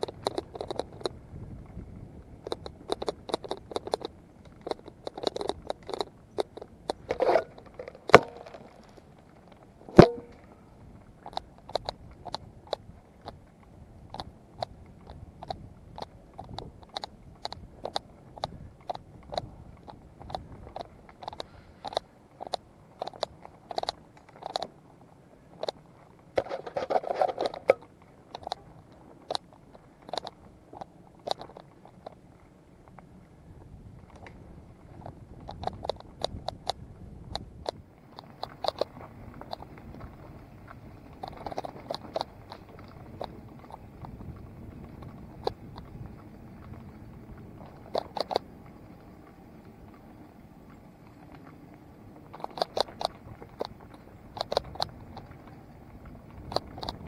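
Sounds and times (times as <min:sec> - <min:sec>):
bike rattling over bumps: 0:00.0 - 0:57.0.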